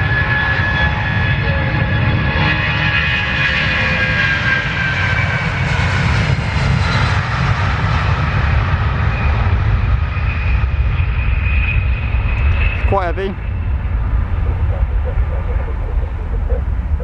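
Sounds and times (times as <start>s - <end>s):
jet aircraft taking off: 0.0s - 17.0s.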